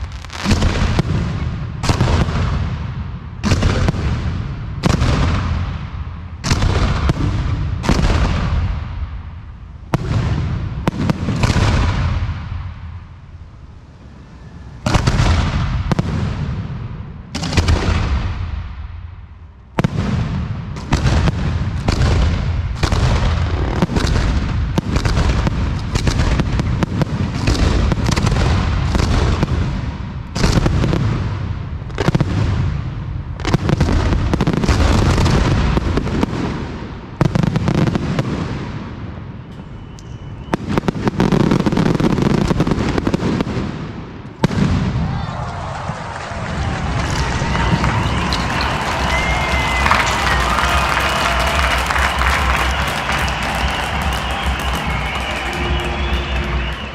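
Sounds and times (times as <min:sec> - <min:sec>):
fireworks bursting: 0:00.0 - 0:45.3, 0:46.0 - 0:56.9.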